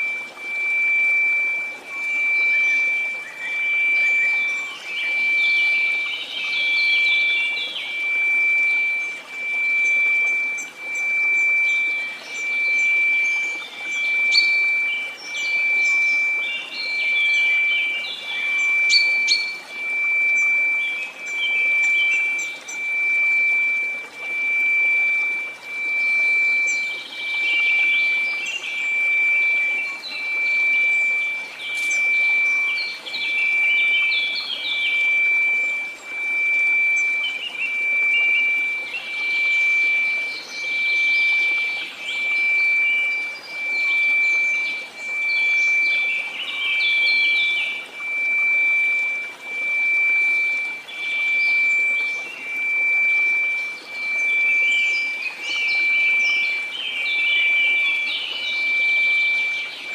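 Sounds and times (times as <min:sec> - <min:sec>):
bird chirps: 0:00.0 - 0:59.9
steady pure tone: 0:00.0 - 0:59.9.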